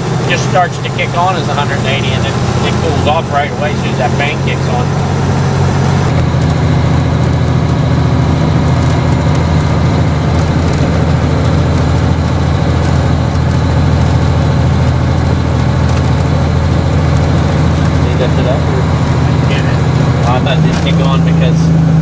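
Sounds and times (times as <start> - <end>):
road noise: 0.0 - 22.0
truck diesel engine droning: 0.0 - 22.0.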